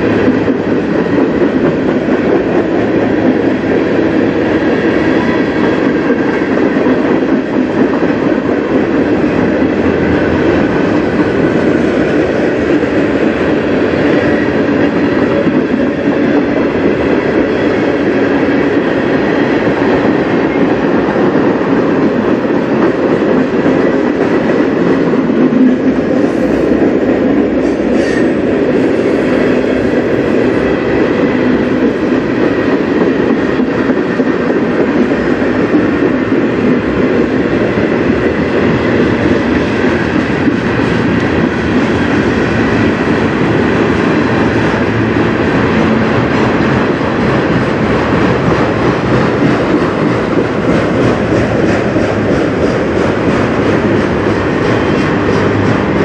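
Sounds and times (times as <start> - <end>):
freight cars rolling on rails: 0.0 - 56.0.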